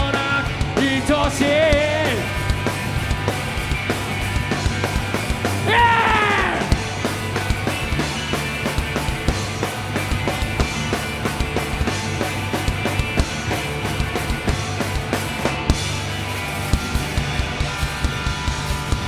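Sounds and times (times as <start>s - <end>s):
drum kit beat: 0.0s - 19.0s
live rock band instrumental: 0.0s - 19.0s.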